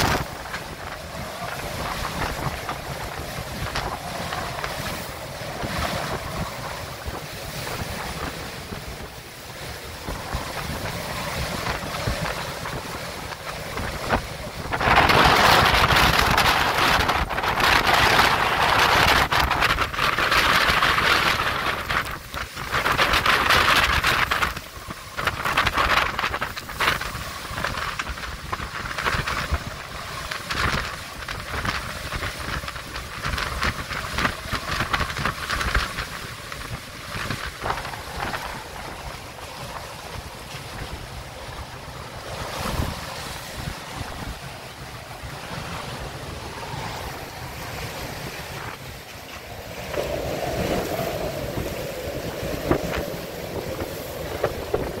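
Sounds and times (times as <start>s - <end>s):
sea noise: 0.0s - 55.0s
strong wind buffeting microphone: 0.0s - 55.0s.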